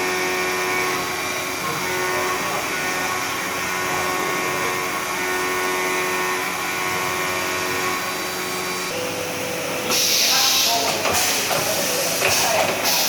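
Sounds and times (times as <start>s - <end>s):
machining center cutting metal: 0.0s - 13.0s.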